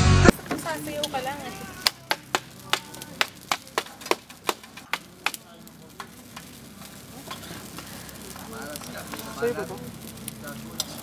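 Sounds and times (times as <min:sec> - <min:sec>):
low steady hiss: 0:00.2 - 0:11.0.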